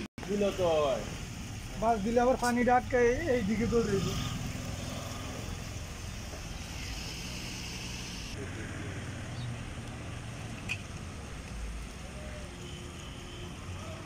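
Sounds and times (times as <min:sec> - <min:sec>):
distant engine noise: 0:00.4 - 0:14.0.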